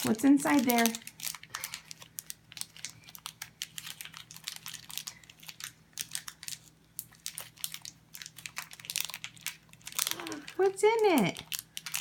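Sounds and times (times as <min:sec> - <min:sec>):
wrapper crinkling: 0:00.0 - 0:12.0.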